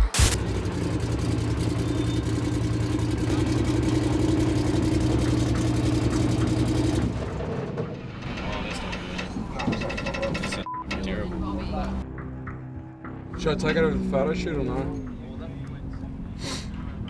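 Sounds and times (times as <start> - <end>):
race vehicle engine running: 0.0 - 12.0, 13.3 - 17.0.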